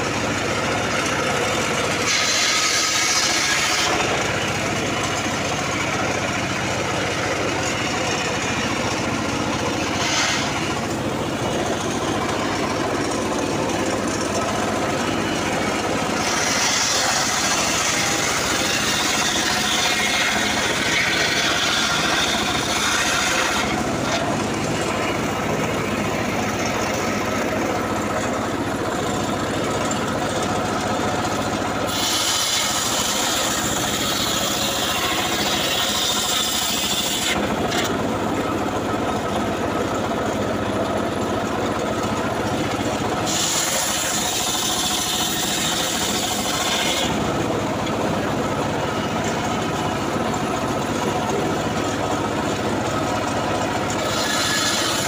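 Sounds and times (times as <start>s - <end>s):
circular saw blade cutting log: 0.0s - 55.0s
engine droning: 0.0s - 55.0s.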